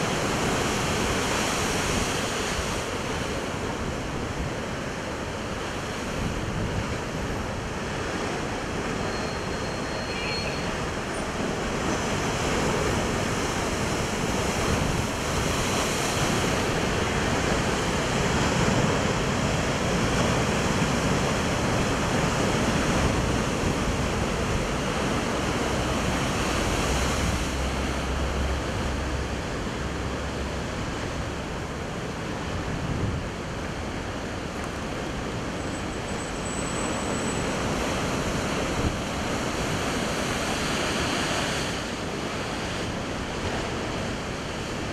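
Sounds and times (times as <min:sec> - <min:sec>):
waves breaking on rocks: 0:00.0 - 0:09.0, 0:10.8 - 0:44.9.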